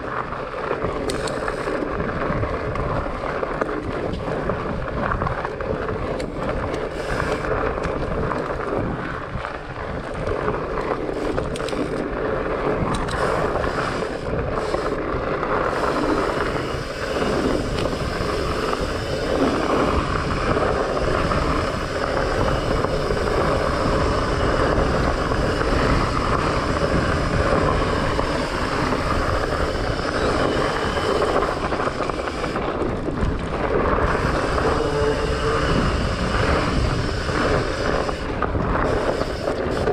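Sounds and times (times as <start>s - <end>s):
bike tyres rolling on dirt: 0.0s - 39.9s
wind noise on microphone: 0.0s - 39.9s.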